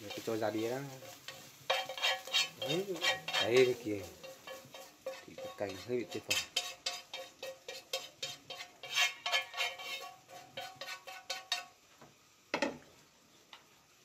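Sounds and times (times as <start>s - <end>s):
chopsticks scraping a pan: 0.0s - 11.8s.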